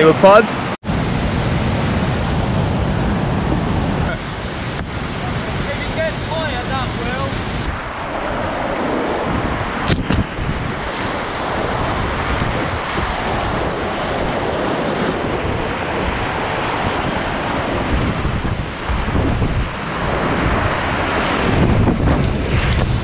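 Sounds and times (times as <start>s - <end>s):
whitewater rushing: 1.8s - 23.0s.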